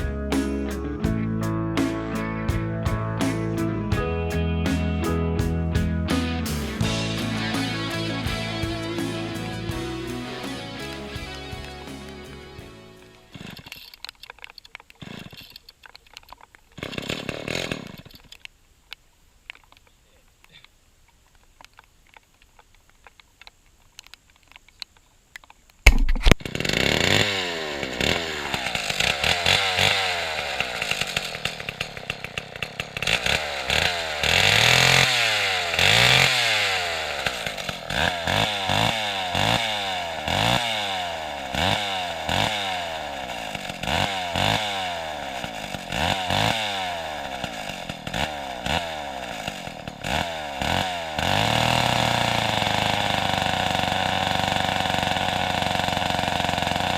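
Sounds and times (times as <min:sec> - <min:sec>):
chainsaw revving: 0:00.0 - 0:14.0, 0:15.0 - 0:15.6, 0:16.8 - 0:18.3, 0:26.3 - 0:56.9.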